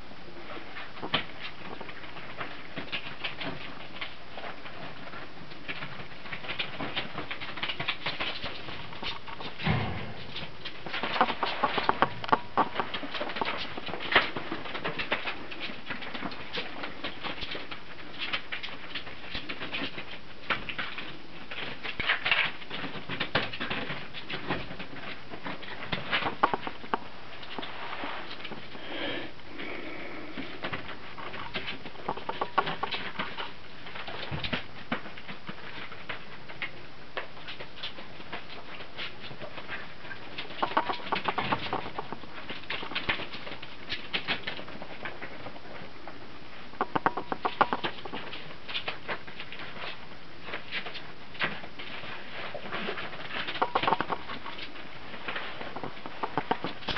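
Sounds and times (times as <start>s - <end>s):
puppies pattering around: 0.4s - 28.9s, 29.6s - 56.9s
paws and claws clicking: 0.7s - 28.8s, 30.4s - 56.9s.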